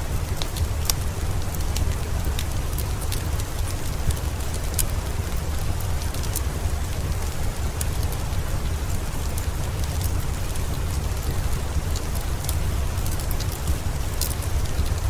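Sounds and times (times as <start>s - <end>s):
fireplace crackling: 0.0s - 15.0s
steady rain: 0.0s - 15.0s.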